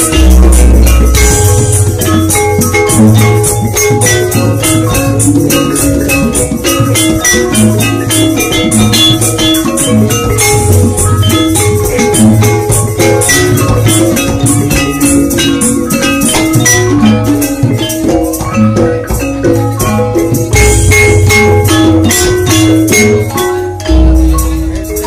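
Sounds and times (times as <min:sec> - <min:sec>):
gongs: 0:00.0 - 0:25.0
hand drum: 0:00.0 - 0:25.0
metal keys struck with mallets: 0:00.0 - 0:25.0.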